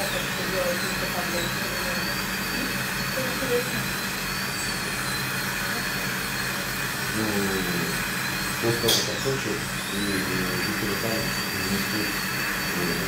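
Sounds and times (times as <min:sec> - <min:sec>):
dental drill whine: 0:00.0 - 0:13.0.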